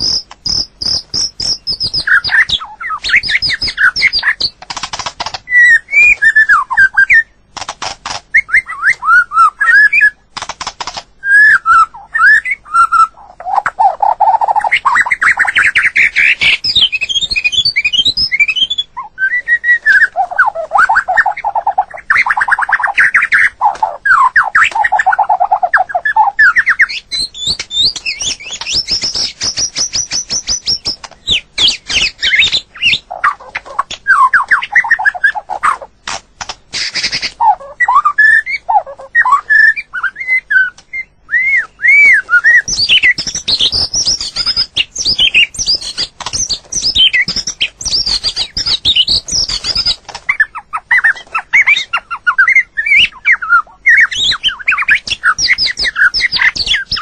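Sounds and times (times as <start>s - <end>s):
bird singing whistled phrases: 0.0s - 4.5s, 5.5s - 7.4s, 8.3s - 10.2s, 11.2s - 35.9s, 36.8s - 57.0s.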